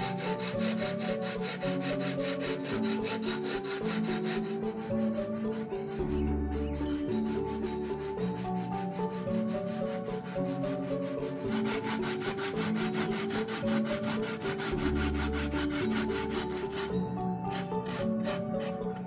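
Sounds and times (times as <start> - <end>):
background music with held notes: 0.0 - 19.0
coconut rasping on metal grater: 0.0 - 19.0.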